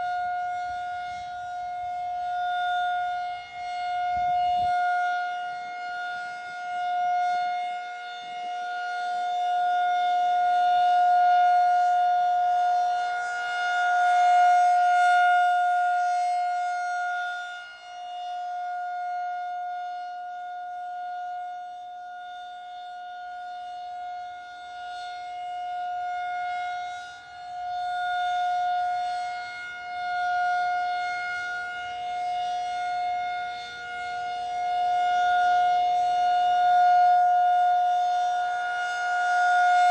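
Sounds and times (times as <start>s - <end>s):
warning siren steady wail: 0.0s - 39.9s.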